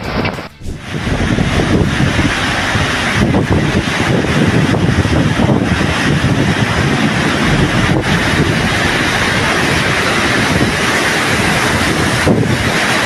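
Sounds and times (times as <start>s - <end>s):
loud rushing noise: 0.0s - 13.0s.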